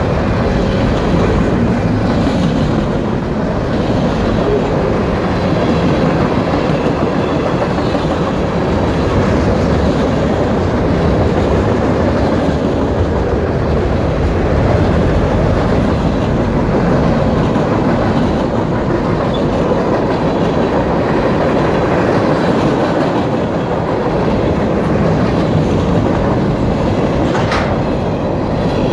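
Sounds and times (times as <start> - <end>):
freight train wheels clattering on rails: 0.0 - 28.9.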